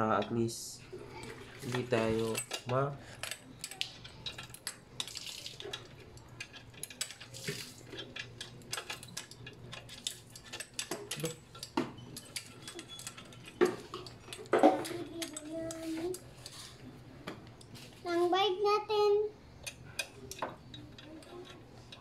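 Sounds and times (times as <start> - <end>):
metal hardware clicking and clinking: 0.0 - 0.5, 1.3 - 16.6, 19.6 - 22.0.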